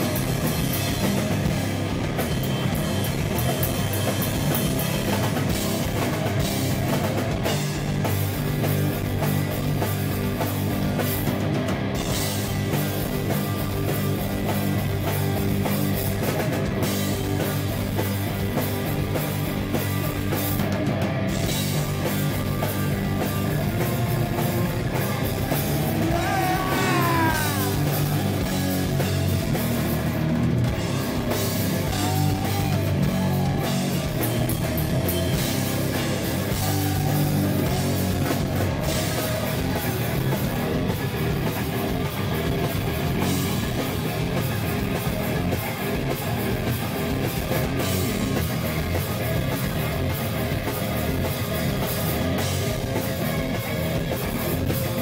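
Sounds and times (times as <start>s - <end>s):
bass guitar: 0.0s - 55.0s
distorted electric guitar: 0.0s - 55.0s
drum kit: 0.0s - 55.0s.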